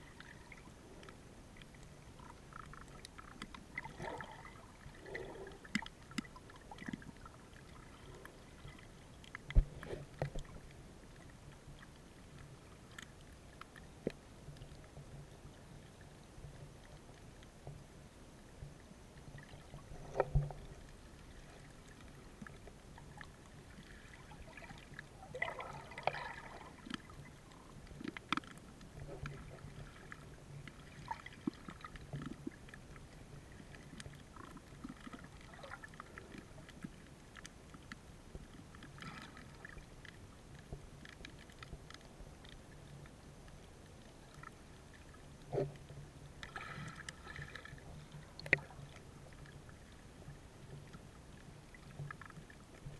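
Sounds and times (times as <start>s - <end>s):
low steady hum: 0.0s - 52.9s
underwater moving water: 0.0s - 52.9s.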